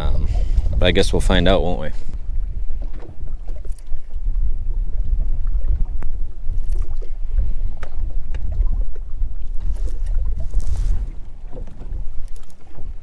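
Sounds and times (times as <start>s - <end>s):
waves slapping boat hull: 0.0s - 13.0s
wind buffeting microphone: 0.0s - 13.0s.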